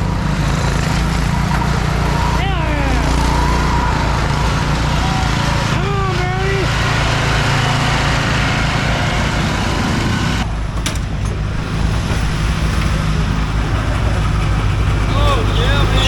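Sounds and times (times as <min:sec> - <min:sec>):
loud rushing noise: 0:00.0 - 0:16.0
mower engine running: 0:00.0 - 0:16.0.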